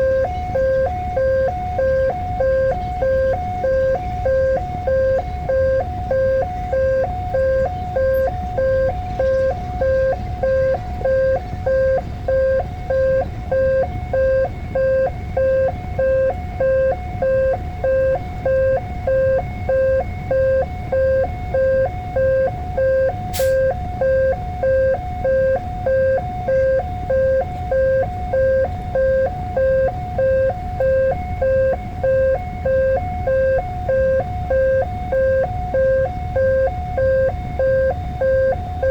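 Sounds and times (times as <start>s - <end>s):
level crossing two-tone alarm: 0.0s - 38.9s.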